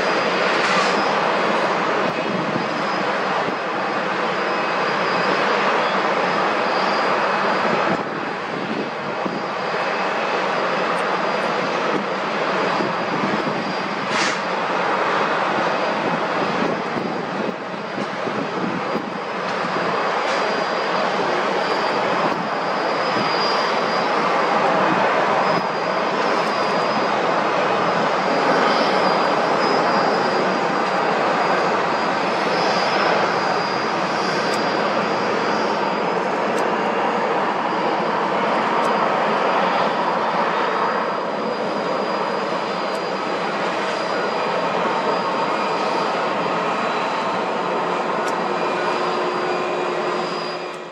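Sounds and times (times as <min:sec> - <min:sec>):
jet engine roar: 0:00.0 - 0:50.9.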